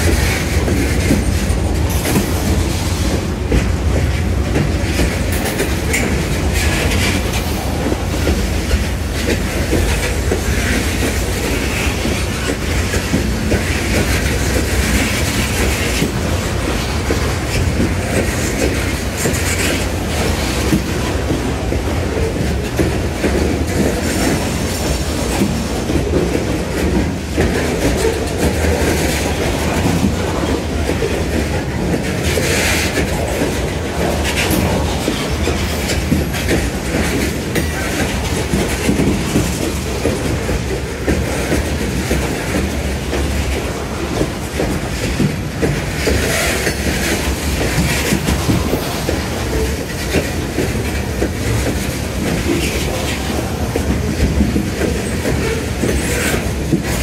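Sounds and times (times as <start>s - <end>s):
freight train rumbling past: 0.0s - 57.0s
wheels clicking over rail joints: 0.0s - 57.0s.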